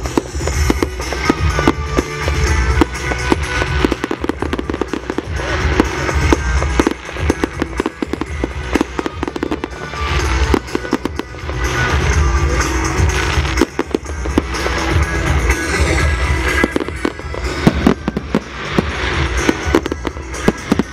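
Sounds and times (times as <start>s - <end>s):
fireworks bangs and crackles: 0.0s - 20.9s
music playing: 0.0s - 20.9s.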